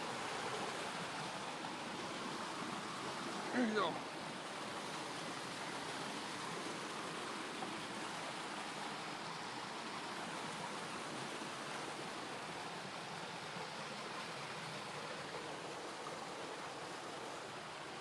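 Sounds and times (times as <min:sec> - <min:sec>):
stream flowing over rocks: 0:00.0 - 0:18.0.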